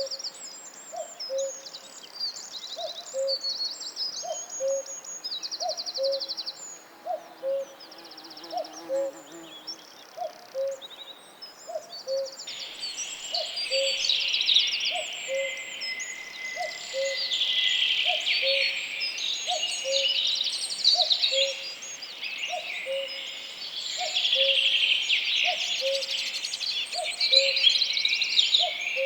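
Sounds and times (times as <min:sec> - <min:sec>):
songbirds singing trills: 0:00.0 - 0:29.0.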